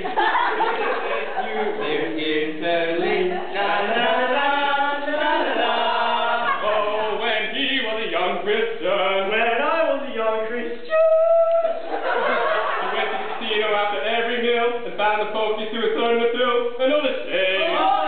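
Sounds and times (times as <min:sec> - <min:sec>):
men chanting and singing: 0:00.6 - 0:11.2, 0:12.2 - 0:18.0.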